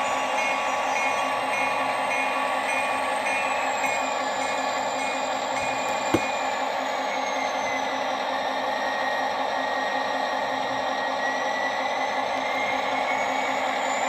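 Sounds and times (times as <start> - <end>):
model locomotive engine hum: 0.0 - 14.0.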